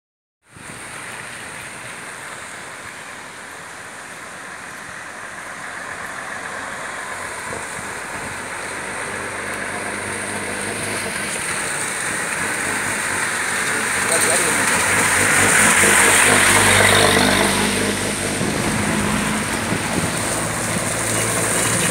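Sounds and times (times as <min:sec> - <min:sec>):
heavy truck engine hum: 0:01.8 - 0:21.9.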